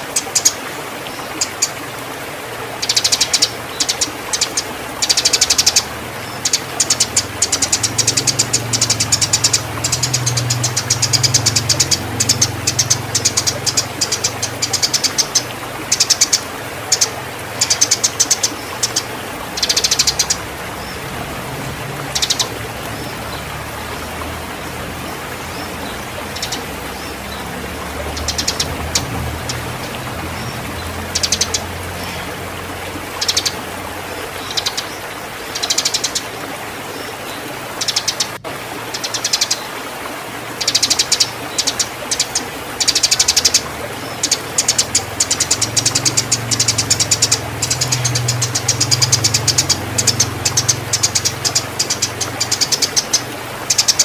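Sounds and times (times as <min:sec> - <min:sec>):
sparrows chirping: 0:00.0 - 0:01.9, 0:02.8 - 0:39.7, 0:40.6 - 0:54.0.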